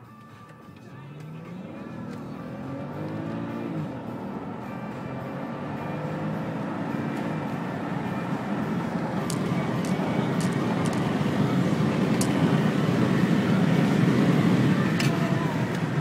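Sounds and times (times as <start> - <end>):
road noise: 0.0 - 16.0
car engine accelerating: 0.6 - 16.0.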